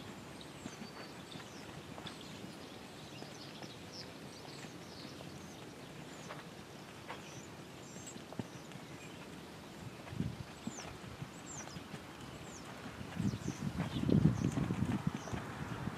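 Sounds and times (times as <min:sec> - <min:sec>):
horse hoofbeats on sand: 0:00.0 - 0:15.9
small birds chirping: 0:00.0 - 0:15.9.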